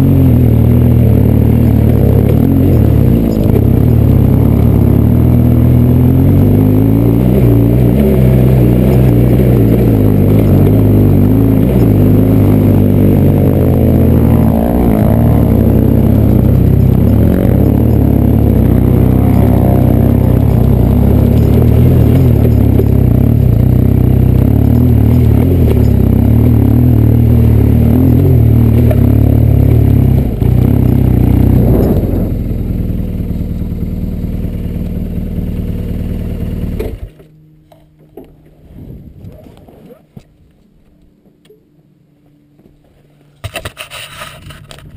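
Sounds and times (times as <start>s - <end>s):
motorcycle engine running: 0.0s - 40.4s.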